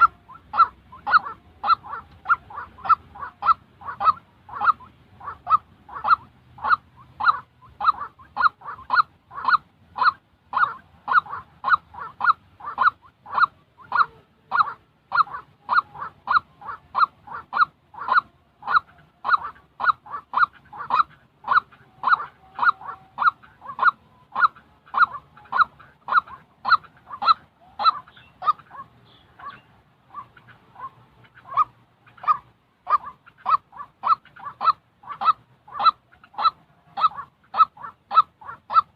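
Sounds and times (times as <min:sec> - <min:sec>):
waterhen calling: 0:00.0 - 0:38.9.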